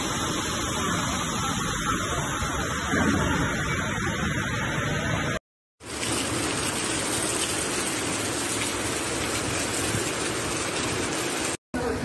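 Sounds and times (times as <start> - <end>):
heavy rain: 0.0 - 12.0
rushing floodwater: 0.0 - 12.0.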